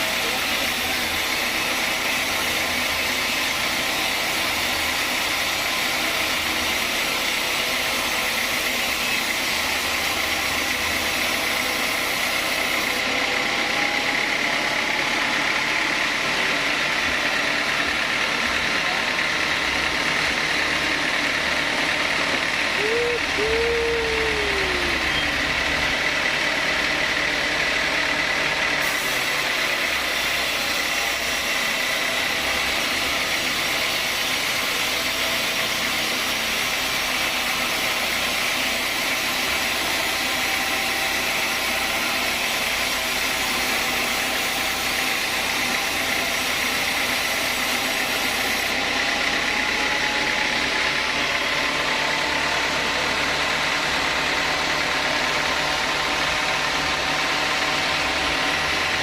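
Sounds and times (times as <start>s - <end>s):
sawmill machinery with high whine: 0.0s - 59.0s.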